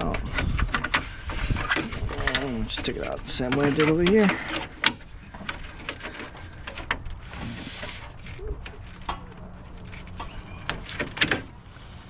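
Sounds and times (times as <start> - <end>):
clicks and knocks of hands working: 0.0 - 11.6.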